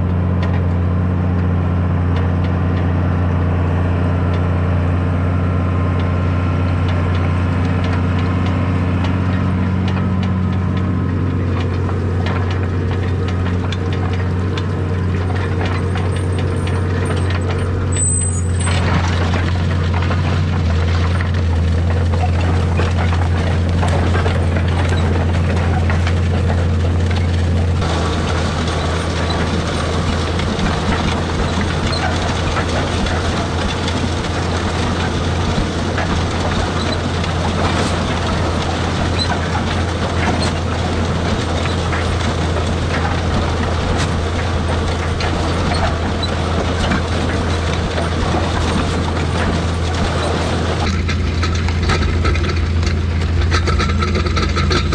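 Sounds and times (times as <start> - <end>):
tractor engine drone: 0.0 - 54.9
rattling machine noise: 6.0 - 54.9.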